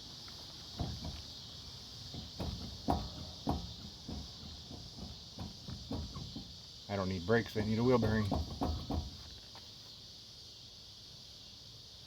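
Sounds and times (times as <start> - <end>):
dull clunks from wheel bearing: 0.0 - 9.8.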